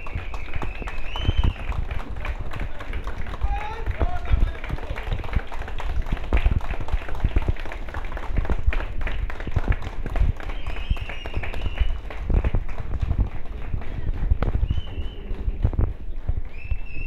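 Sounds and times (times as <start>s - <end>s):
crowd clapping: 0.0s - 17.0s.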